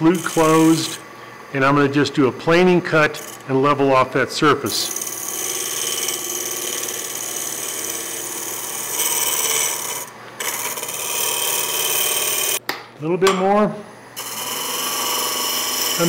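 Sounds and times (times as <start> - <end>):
lathe gouge cutting wood: 0.0 - 12.6, 14.1 - 16.0.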